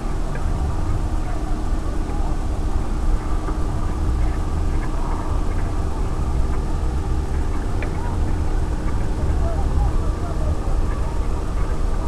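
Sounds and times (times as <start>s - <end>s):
distant two-stroke engine drone: 0.0s - 12.0s
wind buffeting microphone: 0.0s - 12.0s.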